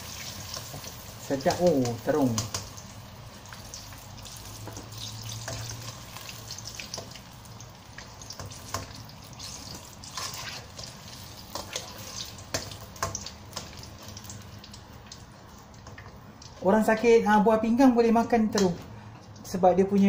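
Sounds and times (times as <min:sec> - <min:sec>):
oil sizzling with pops: 0:00.0 - 0:20.0.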